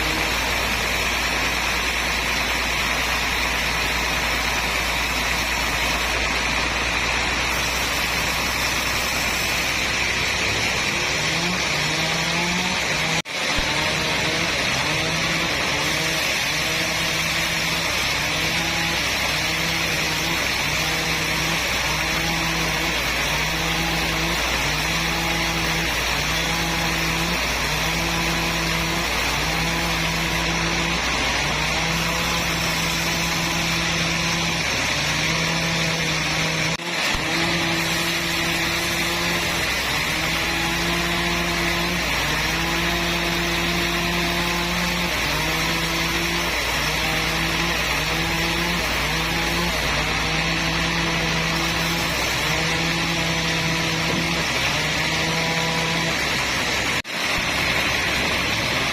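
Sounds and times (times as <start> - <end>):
saw rasping through timber: 0.0 - 58.9.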